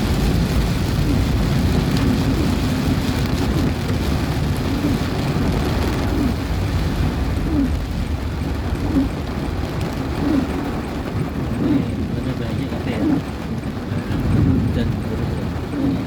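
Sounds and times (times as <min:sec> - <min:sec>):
heavy rain in strong wind: 0:00.0 - 0:16.0
road traffic hum: 0:00.0 - 0:16.0.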